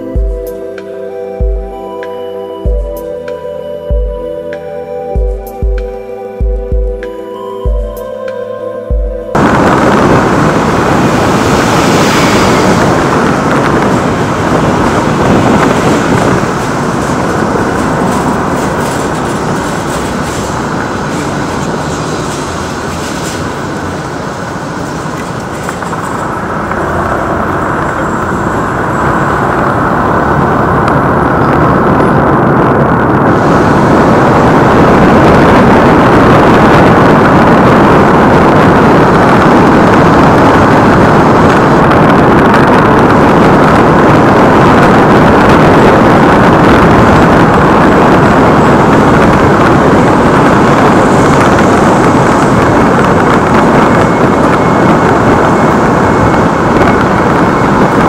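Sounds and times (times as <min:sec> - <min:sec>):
minibus road and engine roar: 0:00.0 - 0:58.0.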